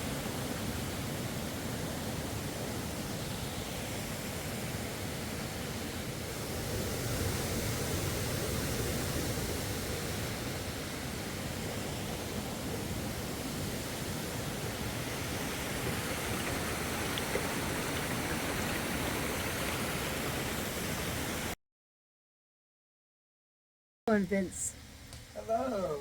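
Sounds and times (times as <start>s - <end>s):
rushing water: 0.0s - 21.6s.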